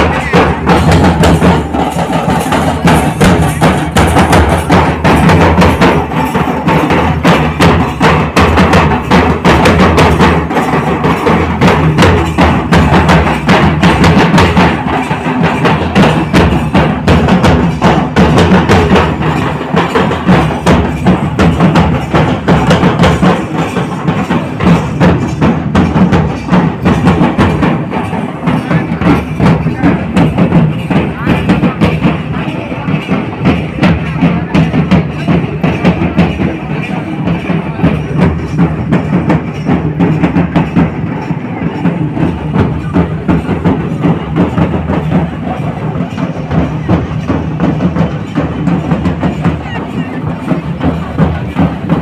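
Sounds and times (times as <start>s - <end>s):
large drums beaten fast: 0.0s - 52.0s.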